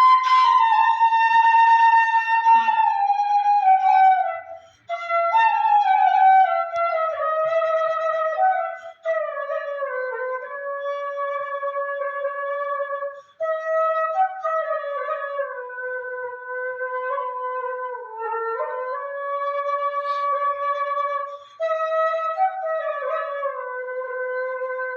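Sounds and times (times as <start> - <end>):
flute melody: 0.0 - 24.9.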